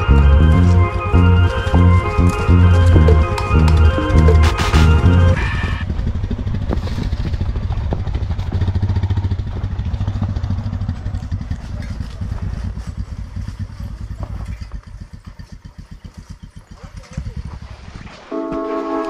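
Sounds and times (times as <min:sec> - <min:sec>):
motorcycle engine running: 0:00.0 - 0:18.1.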